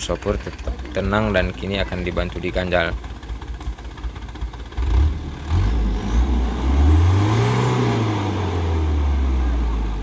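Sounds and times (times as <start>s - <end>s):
diesel truck engine revving: 0.0s - 10.0s.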